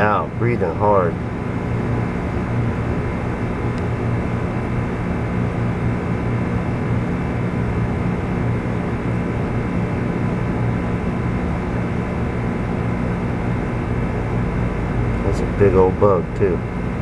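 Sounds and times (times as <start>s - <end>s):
mechanical drone with low hum: 0.0s - 17.0s.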